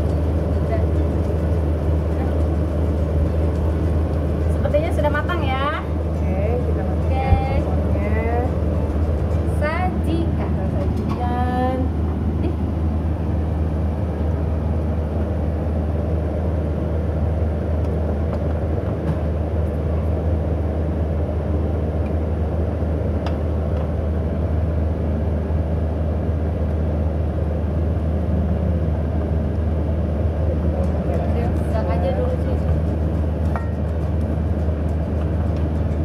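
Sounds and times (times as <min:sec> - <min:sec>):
low whirring rumble: 0:00.0 - 0:36.0.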